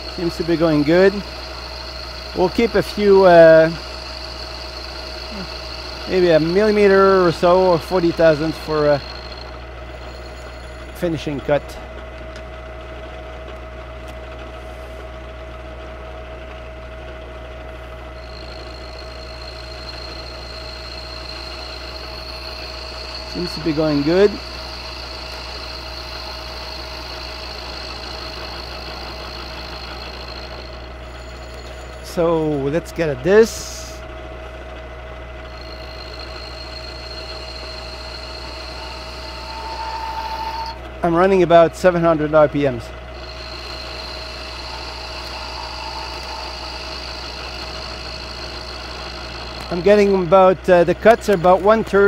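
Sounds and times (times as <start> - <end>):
higher whine: 0.0 - 12.5, 17.6 - 52.0
milling machine motor hum and whine: 0.0 - 52.0.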